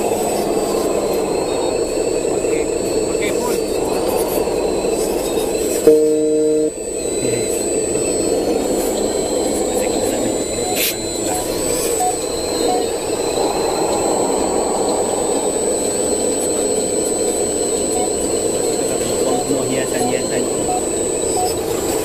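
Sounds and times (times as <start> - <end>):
hydraulic pump whirring whine: 0.0 - 22.0.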